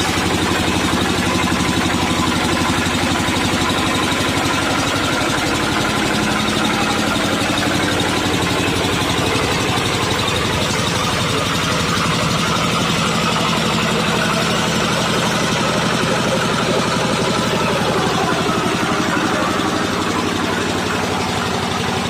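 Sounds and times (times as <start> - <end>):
road roller engine running: 0.0 - 22.0.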